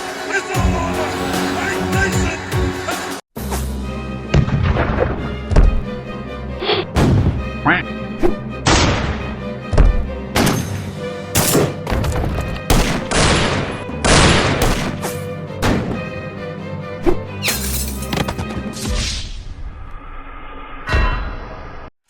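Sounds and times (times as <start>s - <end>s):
background music: 0.0s - 19.7s.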